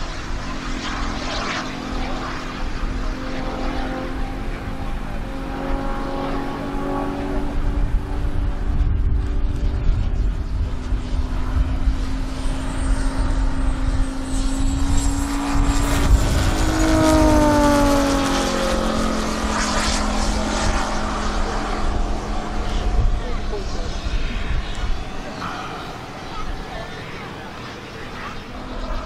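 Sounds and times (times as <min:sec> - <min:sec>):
aircraft engines droning overhead: 0:00.0 - 0:29.0
thin high jet whine: 0:00.0 - 0:29.0.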